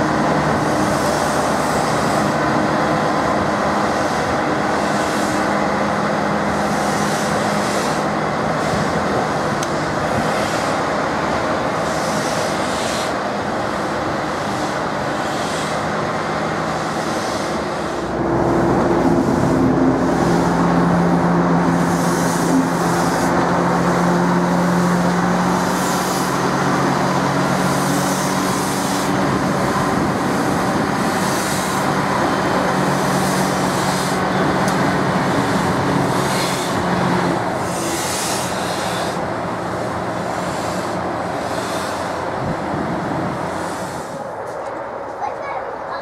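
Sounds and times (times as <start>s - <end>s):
diesel locomotive engine running: 0.0s - 46.0s.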